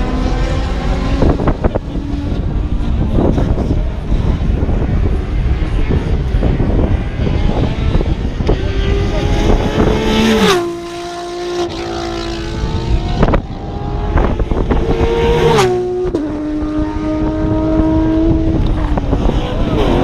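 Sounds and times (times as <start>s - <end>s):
race cars passing at speed: 0.0s - 20.0s
wind rumble on microphone: 0.0s - 20.0s.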